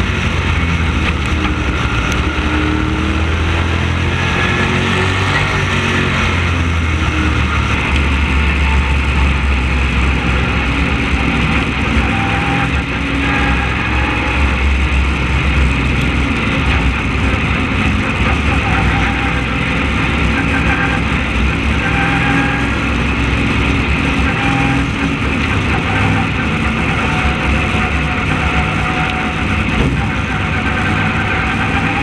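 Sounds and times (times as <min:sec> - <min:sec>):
race car engine running: 0:00.0 - 0:32.0.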